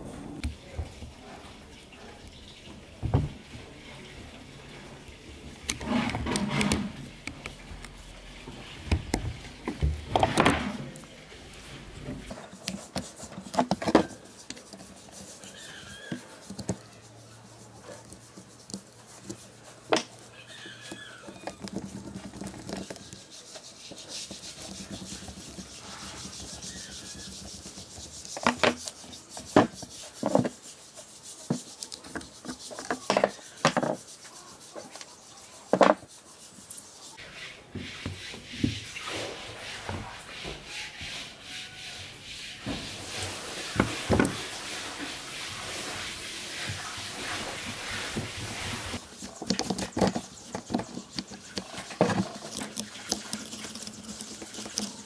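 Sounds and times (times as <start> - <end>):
metal parts rubbing and scraping: 4.5 - 55.0.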